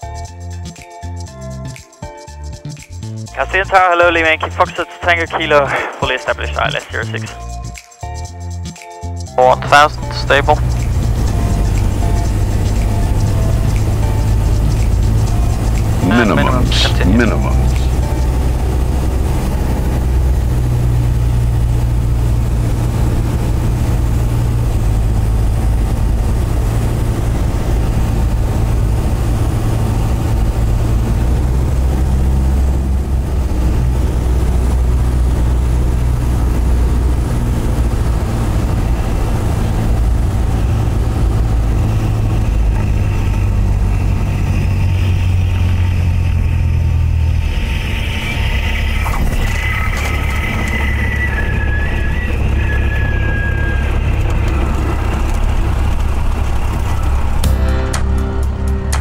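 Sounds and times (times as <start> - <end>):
aircraft engine droning: 3.3 - 7.8, 9.3 - 59.0.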